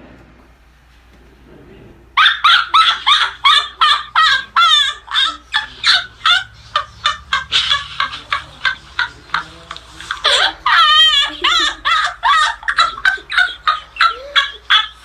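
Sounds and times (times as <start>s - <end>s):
laughter in quick bursts: 2.2s - 15.0s.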